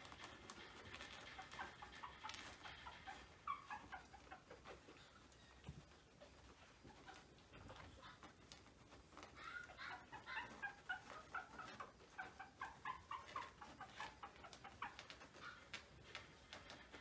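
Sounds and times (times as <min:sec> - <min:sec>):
puppies squeaking and whimpering: 0:00.0 - 0:17.0.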